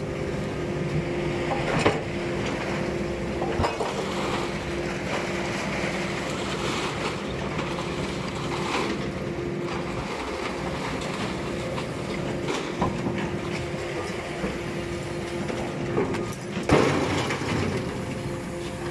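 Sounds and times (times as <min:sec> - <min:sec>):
hydraulic press humming: 0:00.0 - 0:18.9.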